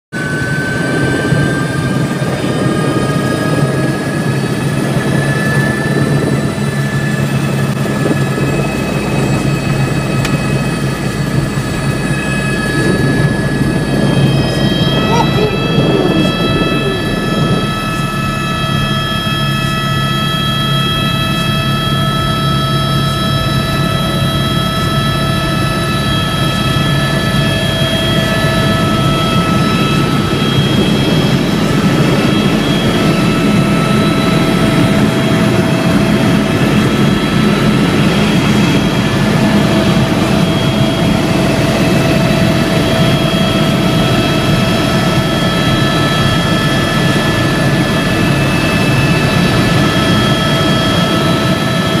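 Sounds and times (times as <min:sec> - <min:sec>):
helicopter engine and rotor noise: 0:00.1 - 0:52.0.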